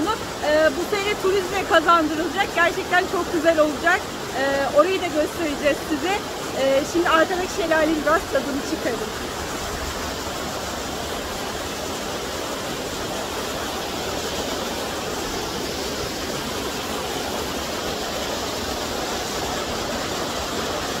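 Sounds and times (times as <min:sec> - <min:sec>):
waterfall splashing into pool: 0:00.0 - 0:21.0.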